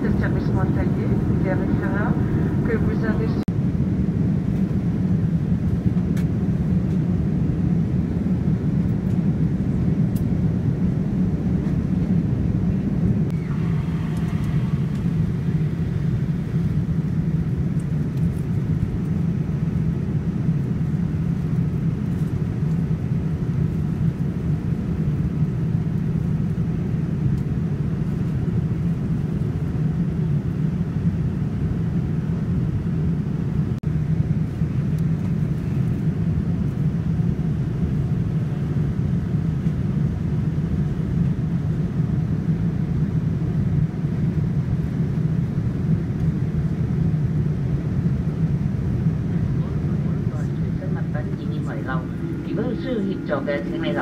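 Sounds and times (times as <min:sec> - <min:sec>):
airliner cabin roar: 0:00.0 - 0:54.0.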